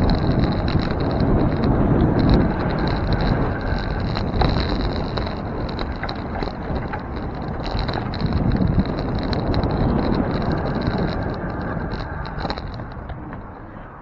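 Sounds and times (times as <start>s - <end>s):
low rumble of street traffic: 0.0s - 14.0s
wind buffeting microphone: 0.0s - 14.0s.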